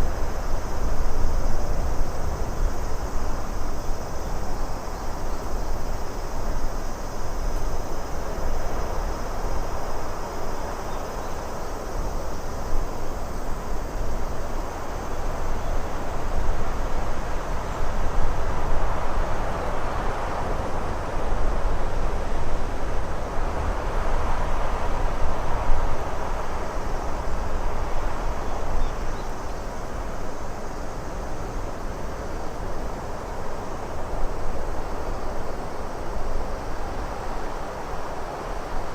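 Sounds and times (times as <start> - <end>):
lakeside rushing noise: 0.0 - 38.9.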